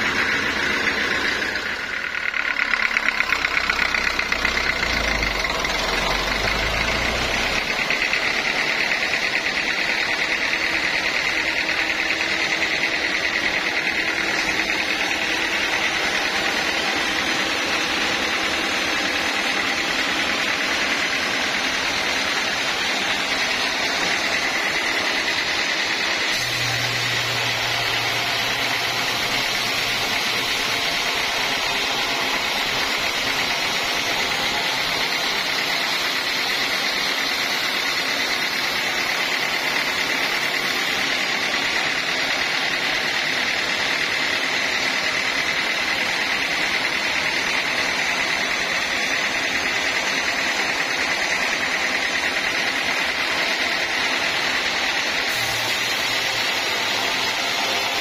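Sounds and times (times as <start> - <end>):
band sawmill whining: 0.0 - 58.0.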